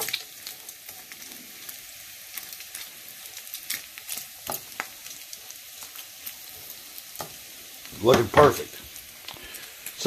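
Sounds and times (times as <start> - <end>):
bacon sizzling with pops: 0.0 - 10.0.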